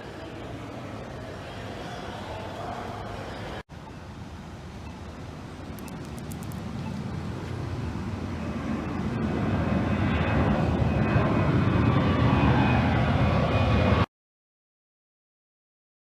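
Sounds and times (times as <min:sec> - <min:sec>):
airplane engine noise: 0:00.0 - 0:14.1.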